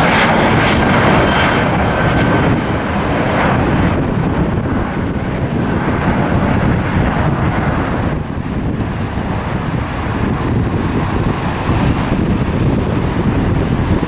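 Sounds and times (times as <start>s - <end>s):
airliner engine noise: 0.0s - 14.0s
wind buffeting microphone: 0.0s - 14.0s.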